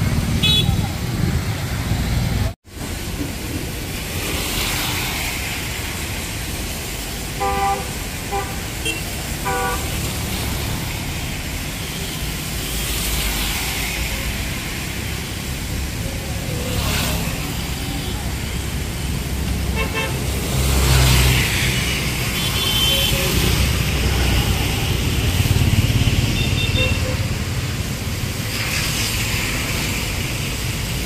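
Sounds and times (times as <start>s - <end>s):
rain and tyres hissing: 0.0s - 31.0s.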